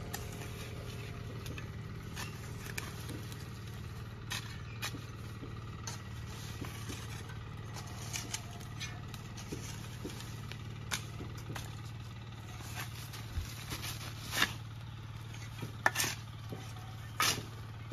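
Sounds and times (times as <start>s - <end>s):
spade scraping into earth: 0.0s - 11.8s, 12.4s - 16.3s
low engine-like hum: 0.0s - 17.9s.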